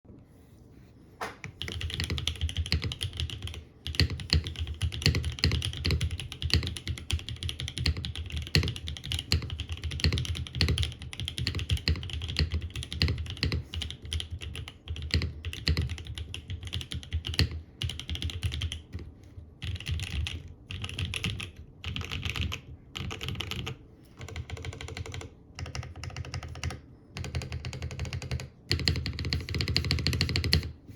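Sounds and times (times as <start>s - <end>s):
mechanical keyboard typing: 1.4s - 30.7s.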